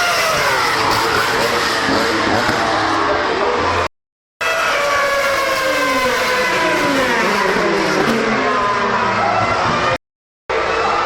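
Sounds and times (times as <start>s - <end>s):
racing car engines screaming: 0.0s - 11.0s.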